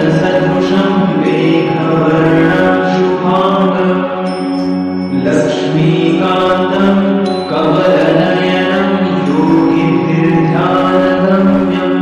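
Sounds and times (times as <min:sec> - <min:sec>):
mantra chanted: 0:00.0 - 0:04.3, 0:05.2 - 0:12.0
steady drone: 0:00.0 - 0:12.0.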